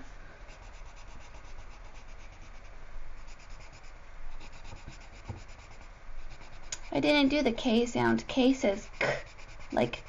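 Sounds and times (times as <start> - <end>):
colored pencil scratching on paper: 0.5 - 7.4, 8.7 - 10.0.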